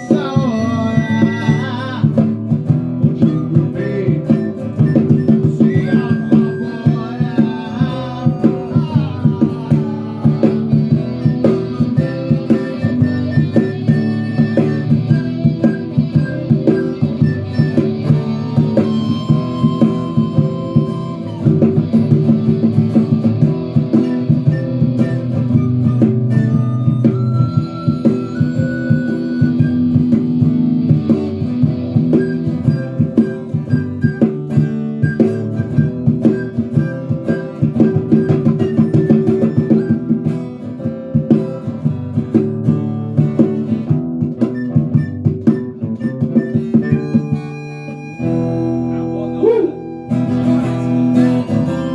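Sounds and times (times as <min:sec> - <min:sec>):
guitar-led band music: 0:00.0 - 0:51.9.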